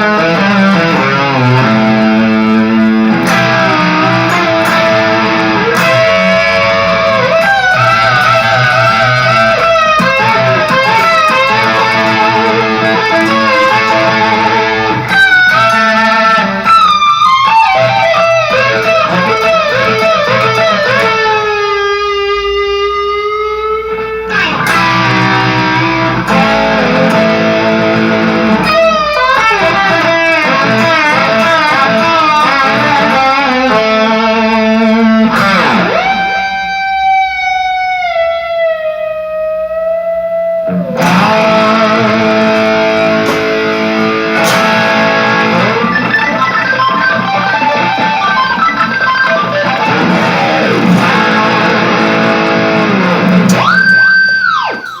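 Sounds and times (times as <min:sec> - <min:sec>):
plucked guitar music: 0:00.0 - 0:55.0.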